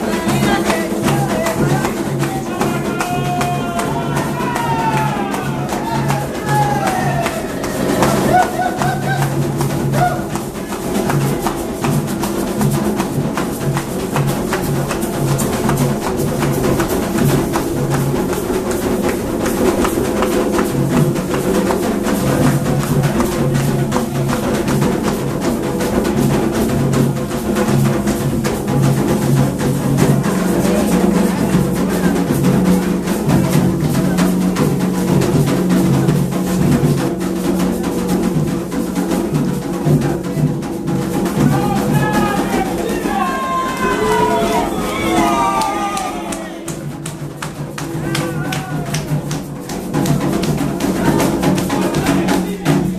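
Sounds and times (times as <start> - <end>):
drum-led percussion music: 0.0 - 52.9.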